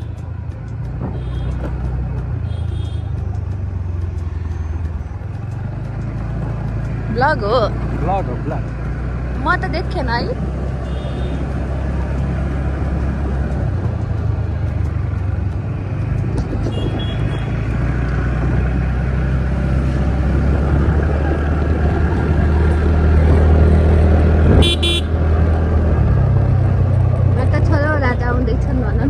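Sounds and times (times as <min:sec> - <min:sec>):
motorbike engine and wind: 0:00.0 - 0:29.0.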